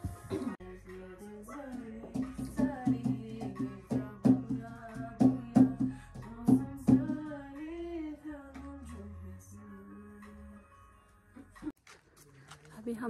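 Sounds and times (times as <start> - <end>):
person singing: 0.0 - 11.7.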